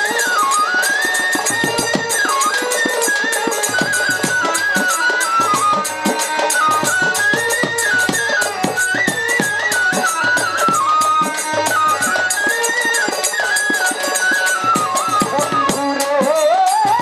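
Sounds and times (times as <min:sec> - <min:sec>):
percussion beat: 0:00.0 - 0:17.0
violin folk melody: 0:00.0 - 0:17.0.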